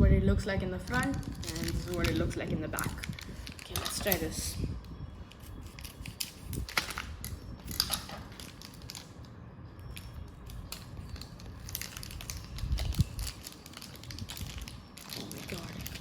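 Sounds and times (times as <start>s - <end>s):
wrapper crinkling: 0.8s - 16.0s.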